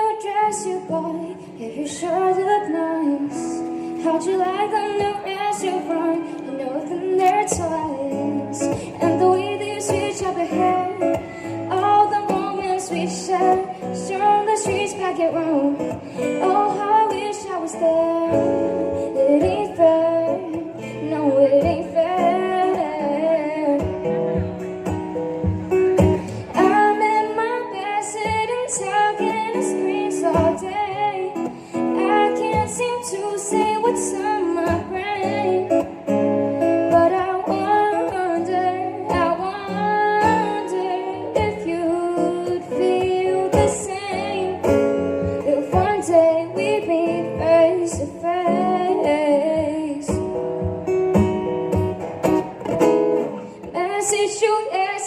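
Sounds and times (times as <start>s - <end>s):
woman singing: 0.0s - 24.4s, 26.2s - 50.7s, 53.5s - 55.0s
plucked acoustic guitar: 0.0s - 55.0s.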